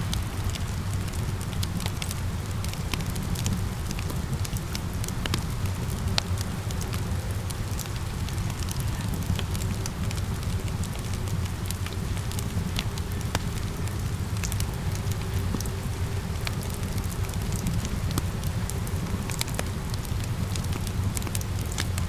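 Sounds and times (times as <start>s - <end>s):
rain hissing: 0.0s - 22.0s
wood fire crackling and popping: 0.0s - 22.0s.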